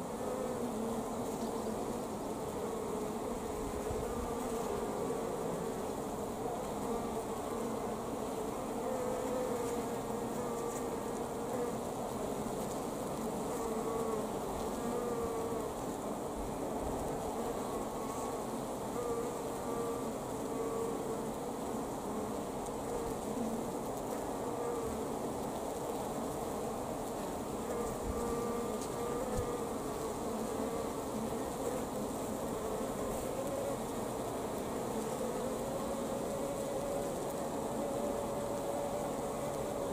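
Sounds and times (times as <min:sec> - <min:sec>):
honeybees humming: 0:00.0 - 0:39.9.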